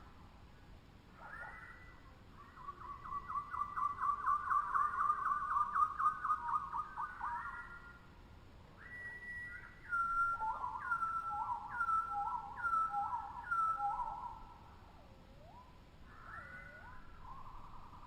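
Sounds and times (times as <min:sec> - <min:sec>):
tropical birds whistling: 0:01.2 - 0:08.0, 0:08.8 - 0:14.5, 0:15.4 - 0:18.0.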